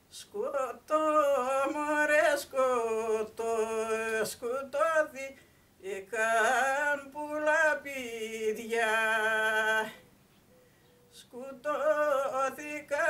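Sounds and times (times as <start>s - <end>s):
person singing unaccompanied: 0.0s - 10.2s, 11.0s - 13.0s.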